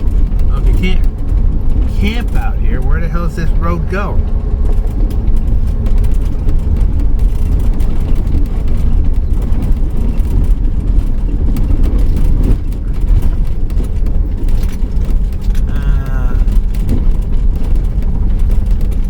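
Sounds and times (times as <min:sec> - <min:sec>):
small rattles and knocks: 0:00.0 - 0:03.0, 0:03.6 - 0:19.0
engine and tyre rumble: 0:00.0 - 0:19.0.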